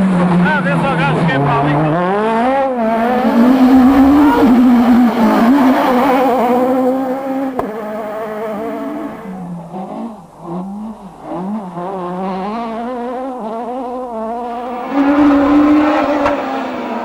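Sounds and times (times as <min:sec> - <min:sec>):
distant rally car engine revving: 0:00.0 - 0:17.0
rally car engine at high revs: 0:00.0 - 0:17.0.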